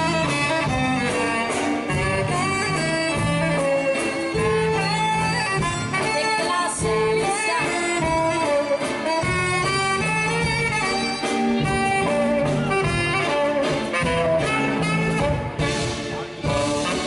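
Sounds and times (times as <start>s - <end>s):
band playing instrumental music: 0.0s - 17.0s.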